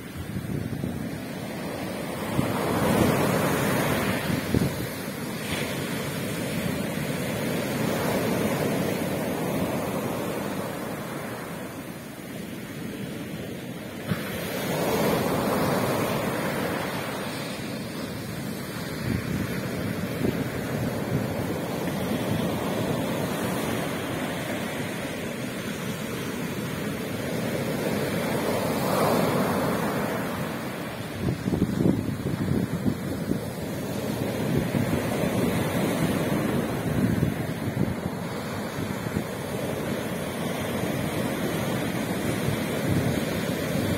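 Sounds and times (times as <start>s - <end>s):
sea waves breaking: 0.0s - 43.9s.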